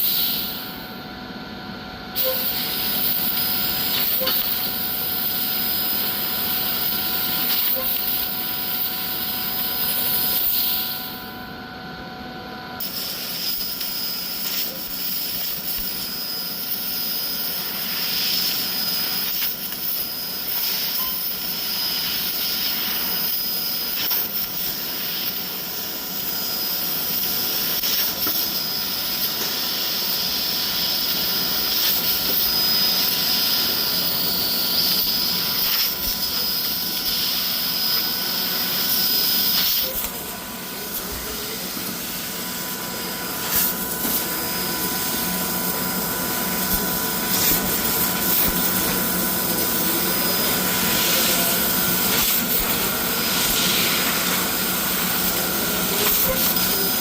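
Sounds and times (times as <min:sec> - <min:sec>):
laser cutter hissing: 0:00.0 - 0:01.1, 0:02.0 - 0:11.5, 0:12.6 - 0:57.0
machine hum and whine: 0:00.0 - 0:57.0.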